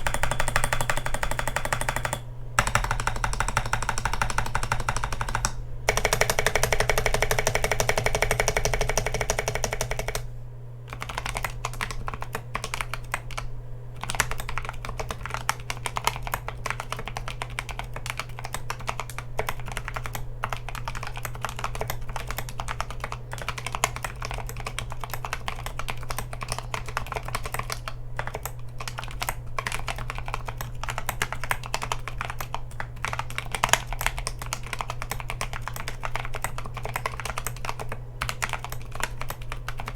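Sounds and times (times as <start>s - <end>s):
mechanical keyboard typing: 0.0s - 10.3s, 10.9s - 39.9s.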